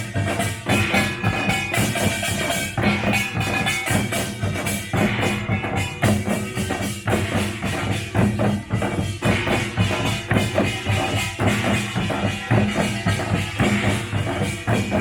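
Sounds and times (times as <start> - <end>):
clanging metal gongs: 0.0 - 15.0
drums playing: 0.0 - 15.0.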